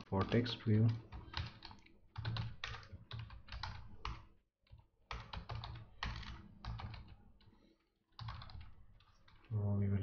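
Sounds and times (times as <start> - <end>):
typing on a keyboard: 0.0 - 7.5, 8.1 - 9.5.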